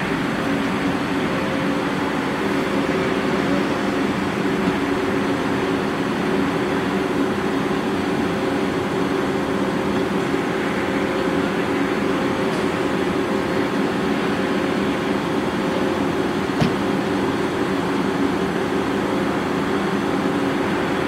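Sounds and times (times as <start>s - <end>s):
car wash machinery drone: 0.0s - 21.0s
constant low hum: 0.0s - 21.0s.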